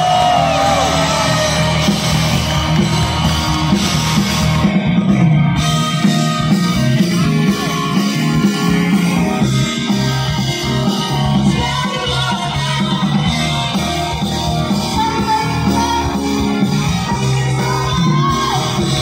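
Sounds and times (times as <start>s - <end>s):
live band music over sound system: 0.0s - 19.0s.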